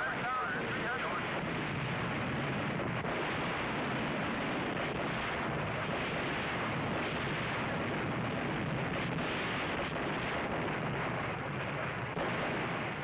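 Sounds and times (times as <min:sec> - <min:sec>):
naval gunfire roar: 0:00.1 - 0:13.0.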